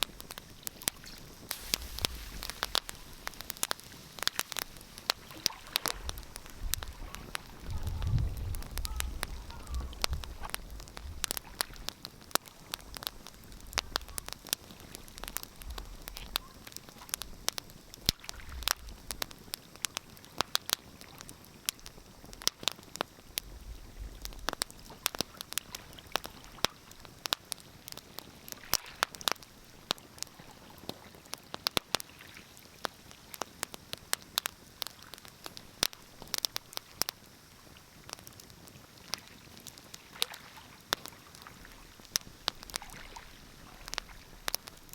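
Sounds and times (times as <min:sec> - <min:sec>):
hiss of burning: 0:00.0 - 0:44.9
wood fire crackling and popping: 0:00.0 - 0:44.9.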